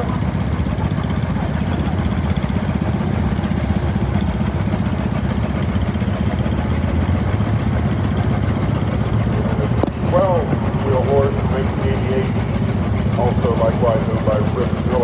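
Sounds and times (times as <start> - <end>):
small tractor engines chugging: 0.0 - 15.0.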